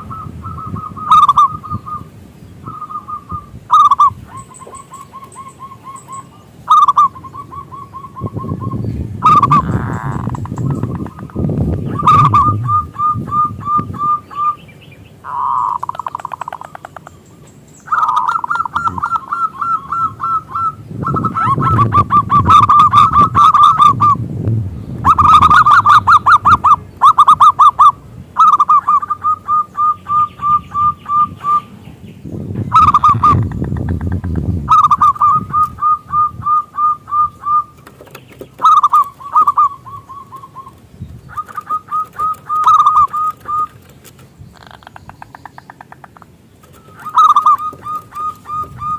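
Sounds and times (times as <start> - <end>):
dove cooing: 0.0 - 14.6, 15.2 - 17.1, 17.9 - 24.2, 25.0 - 31.8, 32.7 - 45.0, 45.8 - 48.9.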